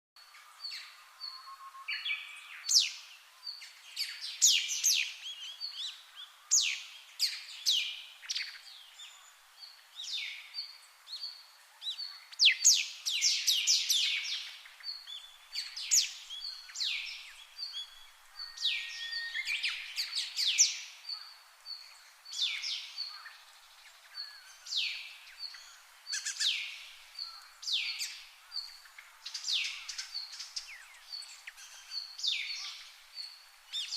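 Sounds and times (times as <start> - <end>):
small birds chirping: 0.2 - 33.9.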